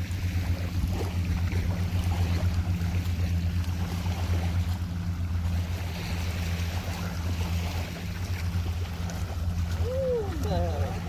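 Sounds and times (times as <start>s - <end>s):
boat engine droning: 0.0s - 11.0s
faint water wash: 0.0s - 11.0s.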